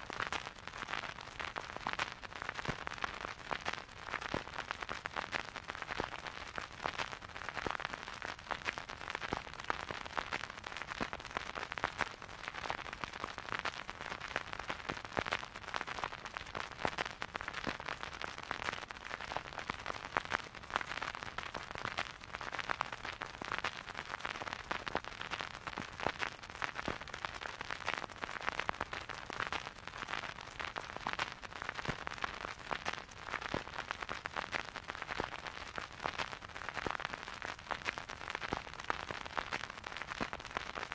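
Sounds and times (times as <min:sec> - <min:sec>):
vinyl crackle and pops: 0:00.0 - 0:40.9.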